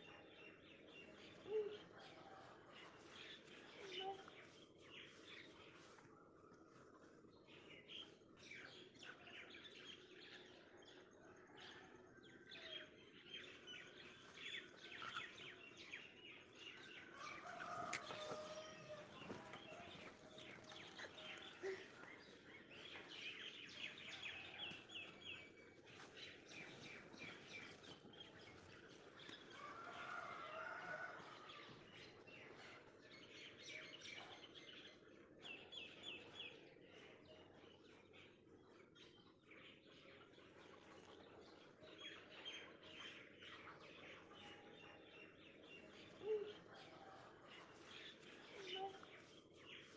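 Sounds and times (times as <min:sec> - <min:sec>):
small birds chirping: 0:00.0 - 0:11.5, 0:12.6 - 0:49.9.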